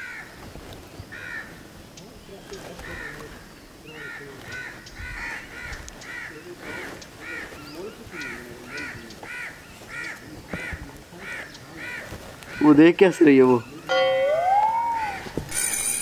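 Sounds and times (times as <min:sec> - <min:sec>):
bird calling: 0:02.5 - 0:12.8, 0:13.4 - 0:16.0.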